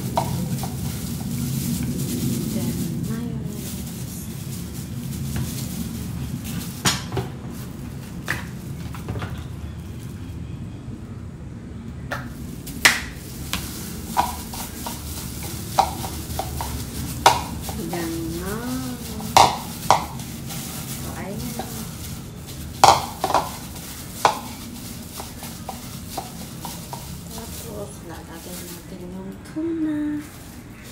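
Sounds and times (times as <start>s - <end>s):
hand mixing food in bowl: 0.0s - 9.2s, 12.3s - 30.9s.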